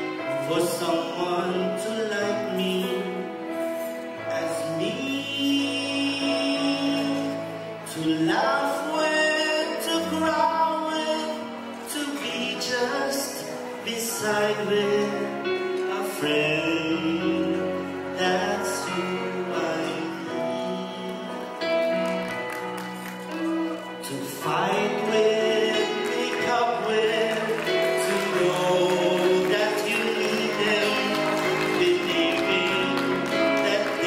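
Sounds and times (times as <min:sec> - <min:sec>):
man singing into a microphone: 0:00.0 - 0:22.1, 0:23.4 - 0:34.0
instrumental accompaniment: 0:00.0 - 0:34.0.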